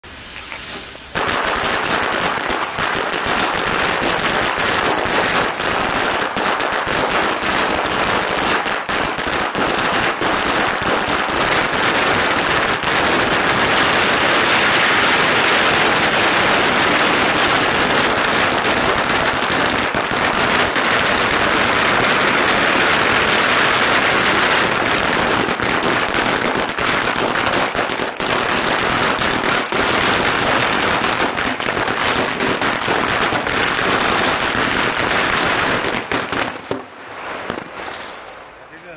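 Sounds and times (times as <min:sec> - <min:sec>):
firecrackers popping: 0:00.0 - 0:38.9.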